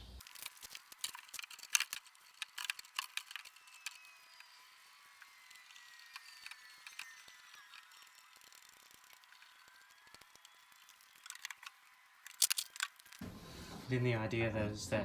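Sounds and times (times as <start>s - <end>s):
light clicks and crackles: 0.2s - 13.2s.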